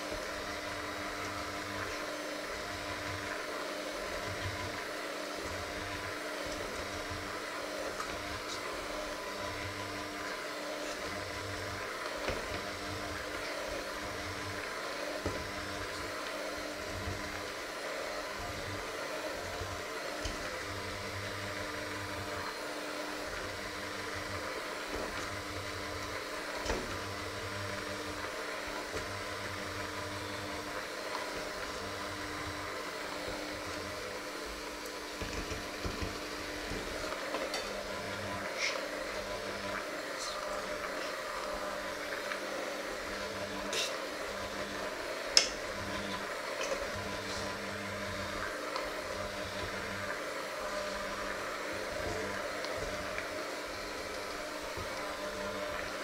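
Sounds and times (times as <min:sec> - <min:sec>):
electric hand mixer running: 0:00.0 - 0:56.0.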